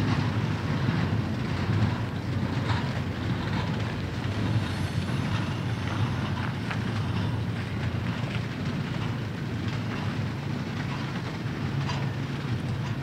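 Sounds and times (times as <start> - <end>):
freight cars clanking: 0.0 - 13.0
train wheels rumbling on rail: 0.0 - 13.0.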